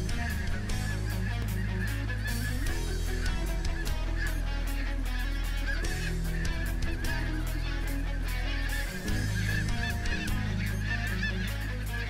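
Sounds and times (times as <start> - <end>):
snow geese honking: 0.0 - 12.0.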